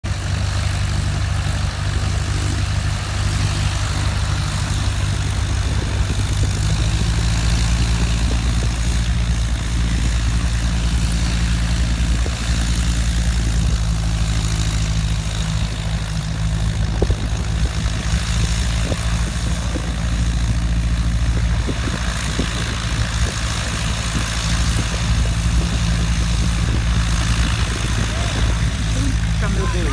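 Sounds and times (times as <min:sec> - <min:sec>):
low engine drone: 0:00.0 - 0:29.9.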